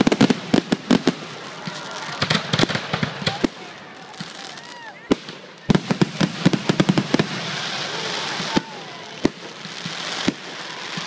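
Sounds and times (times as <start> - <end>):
firework bangs: 0.0 - 11.0
fireworks hissing: 0.0 - 11.0.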